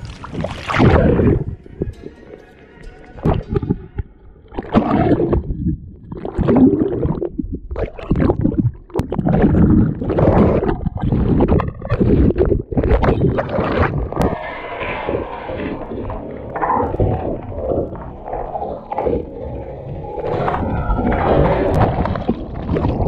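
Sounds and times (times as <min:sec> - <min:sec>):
water gurgling over camera: 0:00.0 - 0:02.5, 0:03.1 - 0:23.0.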